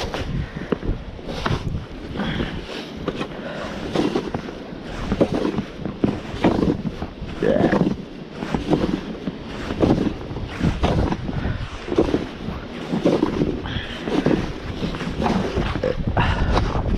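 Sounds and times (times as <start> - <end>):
snow shovel scraping snow: 0.0 - 16.5.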